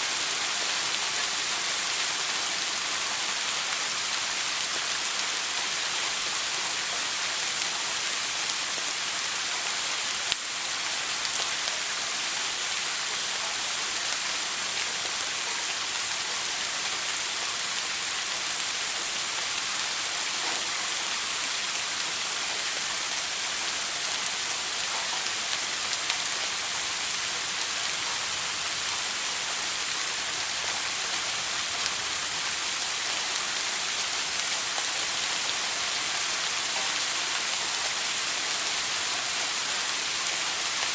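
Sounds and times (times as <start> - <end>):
shower water spraying: 0.0 - 40.9.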